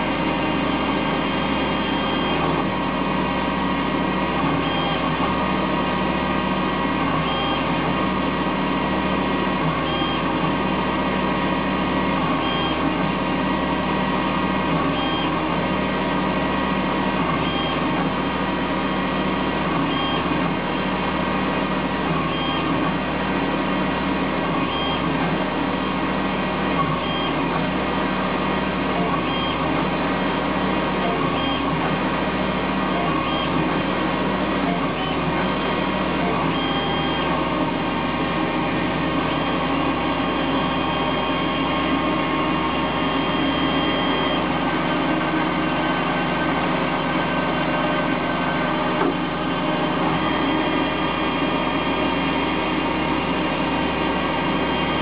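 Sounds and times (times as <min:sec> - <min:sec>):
lathe motor whine: 0:00.0 - 0:55.0.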